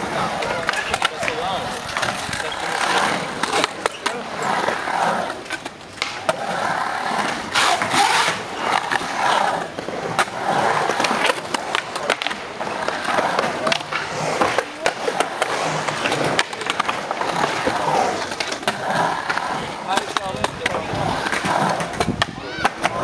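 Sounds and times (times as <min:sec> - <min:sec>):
skateboard clicks and knocks: 0:00.0 - 0:23.0
skateboard wheels rolling on concrete: 0:00.0 - 0:23.0.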